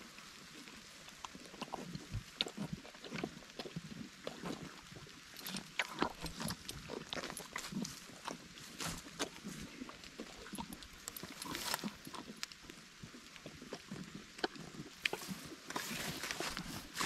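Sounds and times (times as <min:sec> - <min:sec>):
donkey chewing watermelon: 0:00.0 - 0:17.0.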